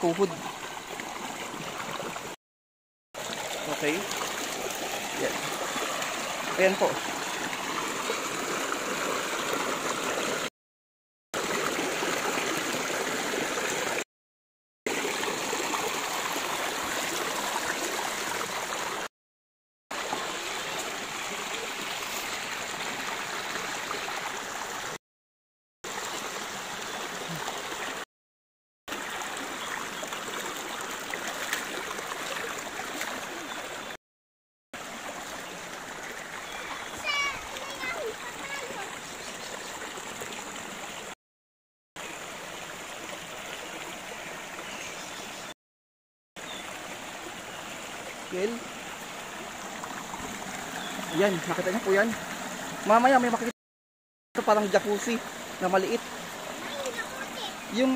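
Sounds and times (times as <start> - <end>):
stream flowing over stones: 0.0 - 2.4, 3.2 - 10.5, 11.4 - 14.0, 14.9 - 19.1, 19.9 - 25.0, 25.8 - 28.1, 28.9 - 34.0, 34.8 - 41.2, 42.0 - 45.6, 46.4 - 53.6, 54.4 - 57.9.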